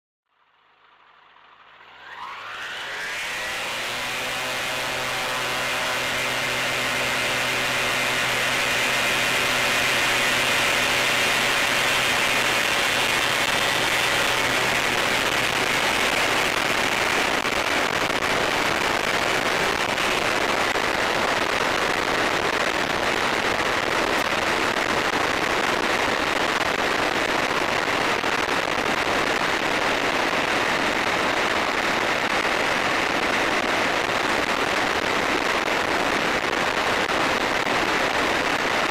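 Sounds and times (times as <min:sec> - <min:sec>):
light aeroplane engine and propeller: 0:00.3 - 0:38.9.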